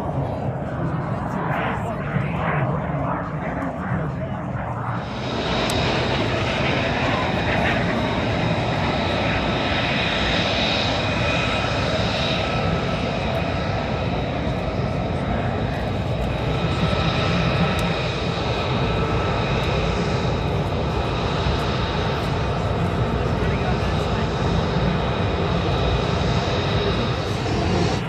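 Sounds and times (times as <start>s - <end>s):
aircraft engine drone: 0.0s - 28.0s.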